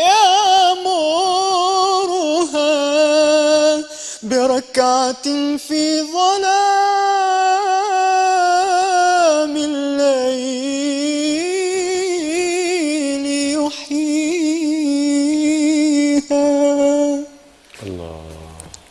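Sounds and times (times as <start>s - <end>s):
person chanting: 0.0s - 18.8s.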